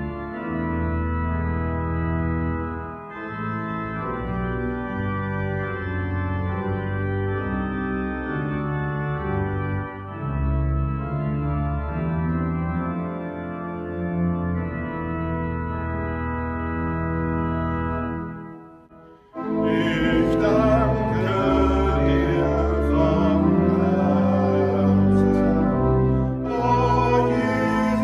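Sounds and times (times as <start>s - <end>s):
pipe organ playing chords: 0.0s - 28.0s.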